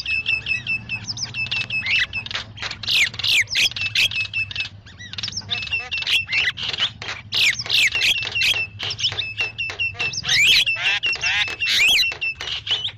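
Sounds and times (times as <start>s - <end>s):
starling chattering and singing: 0.5s - 12.9s.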